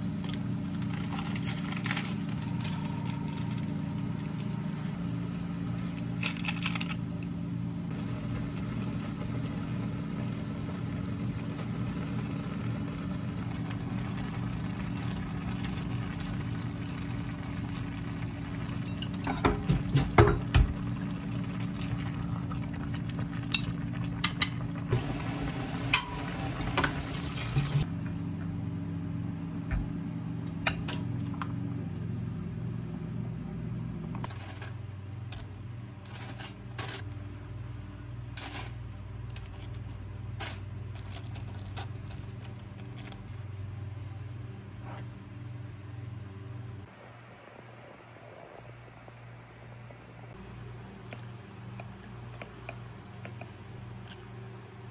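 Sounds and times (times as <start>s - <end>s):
low electrical hum: 0.0s - 54.9s.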